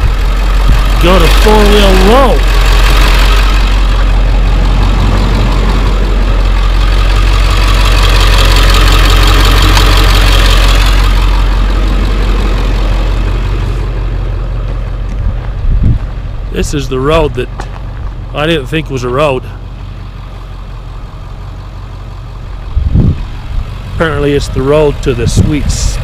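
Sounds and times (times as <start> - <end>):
road and cab rumble: 0.0 - 26.0
truck engine drone: 0.0 - 26.0.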